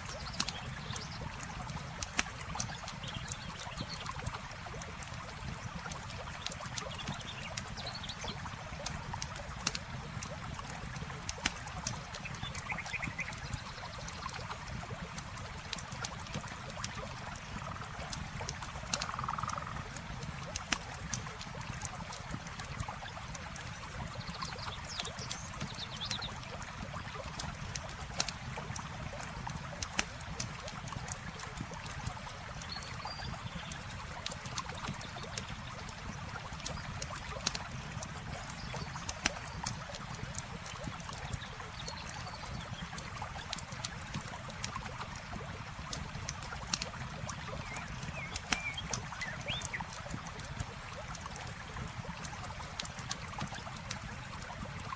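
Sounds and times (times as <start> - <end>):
campfire crackling and popping: 0.0 - 54.9
flowing water: 0.0 - 54.9.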